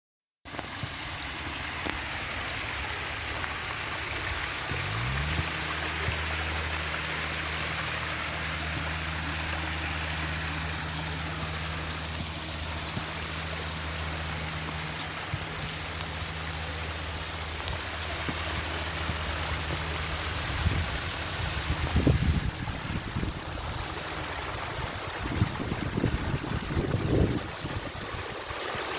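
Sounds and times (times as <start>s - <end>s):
low motor hum: 0.5s - 28.6s
rushing water: 0.5s - 28.9s.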